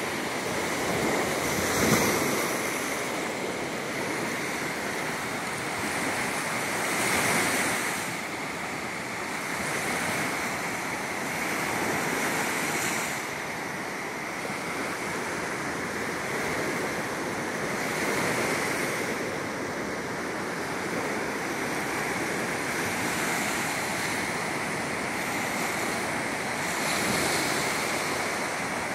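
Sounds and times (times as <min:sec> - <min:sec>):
waves washing up shore: 0:00.0 - 0:28.9.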